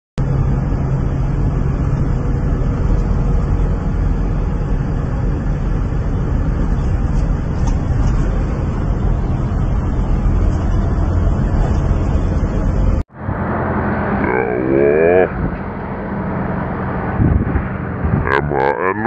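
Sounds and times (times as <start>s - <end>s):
car cabin road noise: 0.2s - 19.0s.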